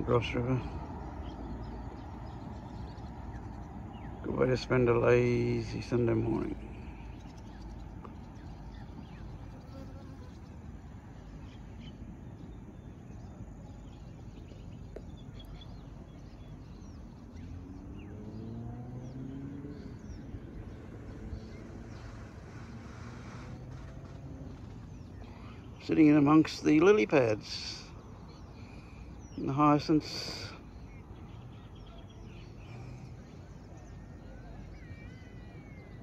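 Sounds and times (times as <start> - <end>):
bird chirps: 0.0 - 36.0.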